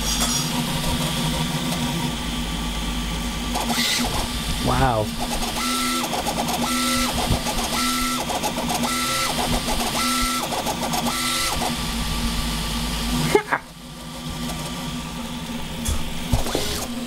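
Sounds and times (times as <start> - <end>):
steady hum: 0.0 - 17.0
stepper motors whining: 0.0 - 17.0.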